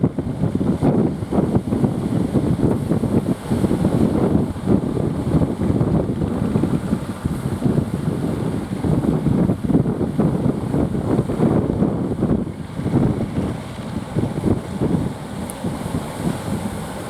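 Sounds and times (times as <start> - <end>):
surf: 0.0 - 17.0
wind buffeting microphone: 0.0 - 17.0.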